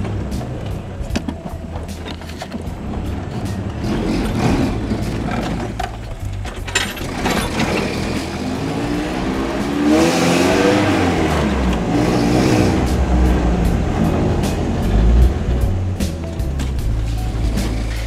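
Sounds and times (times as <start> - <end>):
truck engine accelerating: 0.0 - 18.0.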